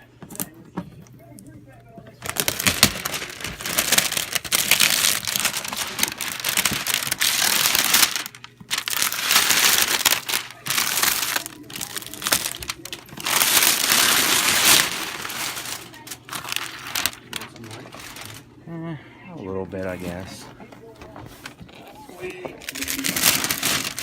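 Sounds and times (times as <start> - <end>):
plastic wrapper tearing and crinkling: 2.2 - 18.5, 21.0 - 24.0.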